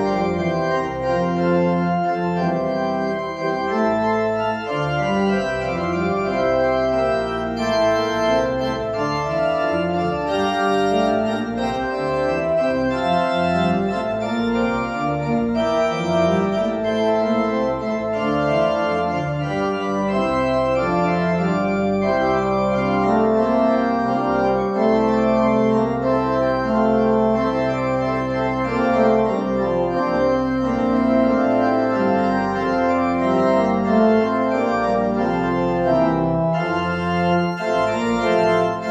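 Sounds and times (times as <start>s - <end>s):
church organ playing chords: 0.0s - 38.9s.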